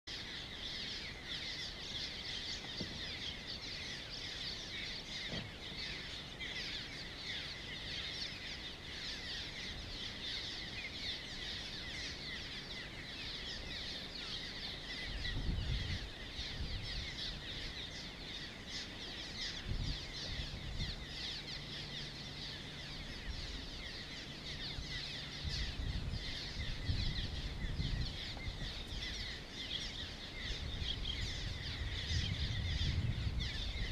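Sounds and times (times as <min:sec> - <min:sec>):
flock of birds chirping: 0:00.0 - 0:33.9.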